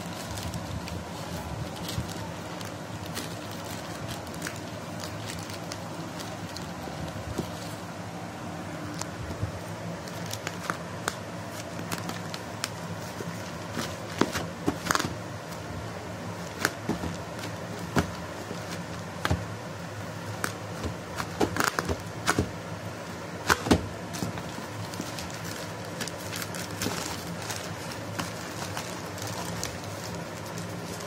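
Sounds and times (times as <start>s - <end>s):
plastic mailer crinkling: 0.0s - 8.0s, 8.7s - 31.0s.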